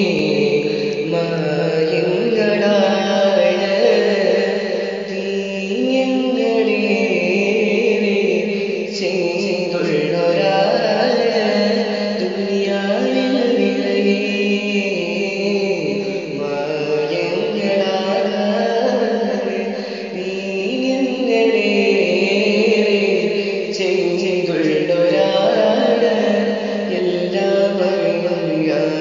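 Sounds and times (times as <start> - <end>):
person singing chant-like melody: 0.0 - 29.0.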